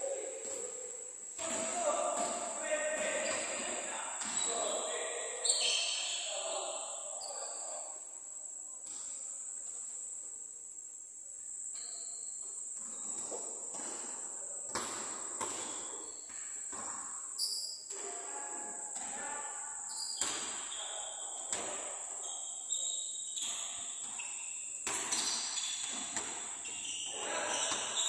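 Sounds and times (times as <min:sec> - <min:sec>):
basketballs bouncing in a hall: 0:00.0 - 0:07.8, 0:08.8 - 0:10.0, 0:11.7 - 0:28.0.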